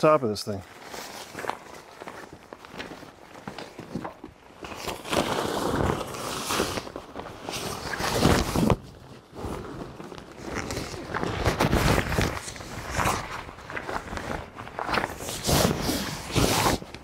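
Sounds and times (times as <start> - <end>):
plastic cover rustling and crackling: 0.5 - 17.0.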